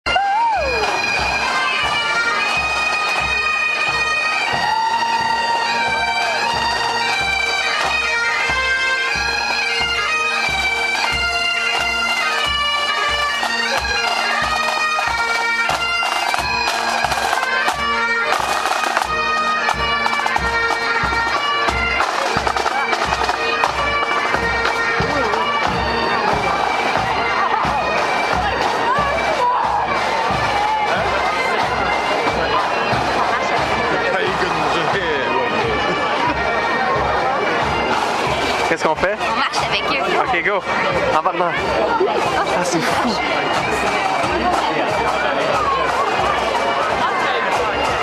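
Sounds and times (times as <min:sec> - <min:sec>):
bagpipes playing a melody: 0:00.1 - 0:48.0.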